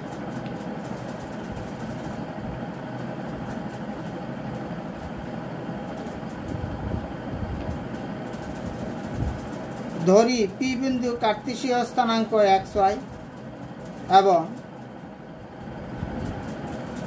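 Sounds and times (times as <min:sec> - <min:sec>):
low background hum and rumble: 0:00.0 - 0:17.0.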